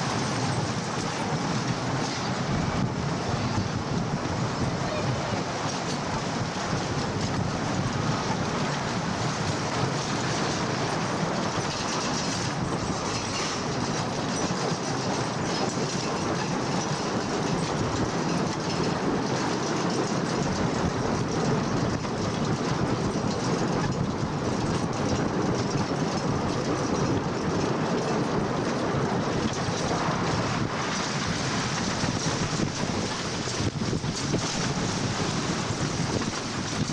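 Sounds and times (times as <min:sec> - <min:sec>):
roller coaster rumbling and rattling: 0:00.0 - 0:36.9.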